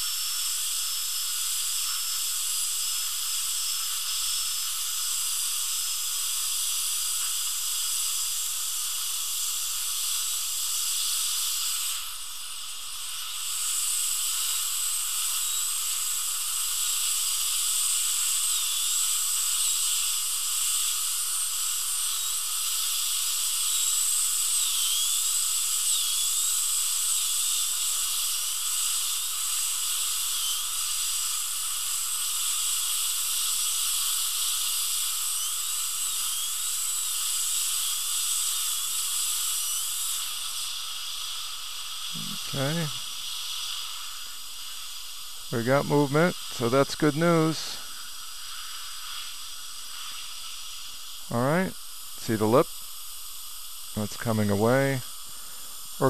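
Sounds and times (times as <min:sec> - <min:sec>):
dental drill cutting metal: 0:00.0 - 0:56.0.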